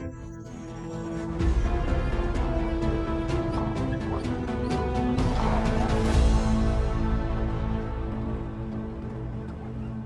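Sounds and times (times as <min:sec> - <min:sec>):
tense orchestral music: 0:00.0 - 0:10.0.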